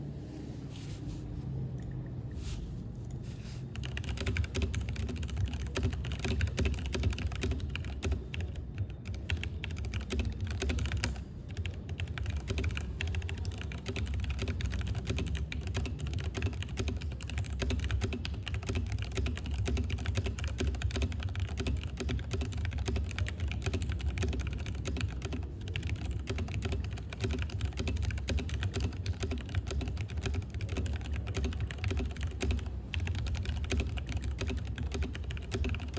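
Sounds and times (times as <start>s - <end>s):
fast typing on mechanical keyboard: 3.7s - 35.9s.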